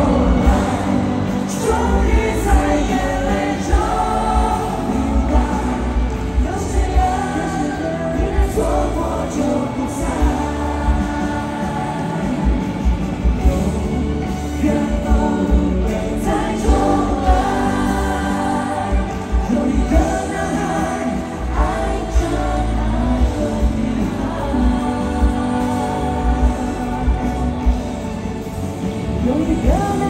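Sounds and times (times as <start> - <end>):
live pop ballad with band: 0.0 - 30.0.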